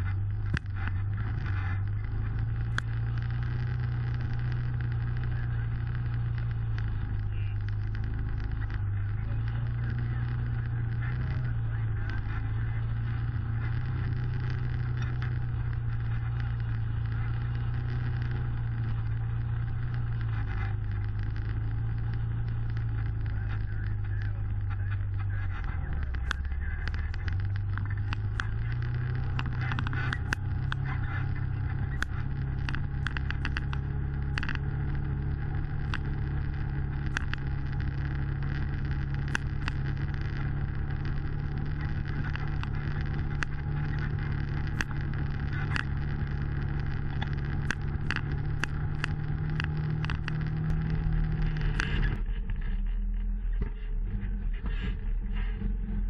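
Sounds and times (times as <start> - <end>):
vehicle engine running: 0.0 - 56.0
vehicle rattling over rough trail: 0.0 - 56.0.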